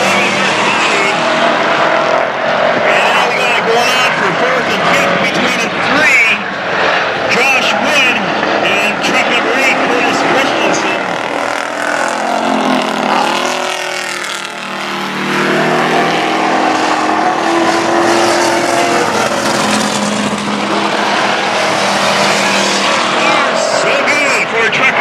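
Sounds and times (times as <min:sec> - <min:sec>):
racing truck engines revving: 0:00.0 - 0:25.0.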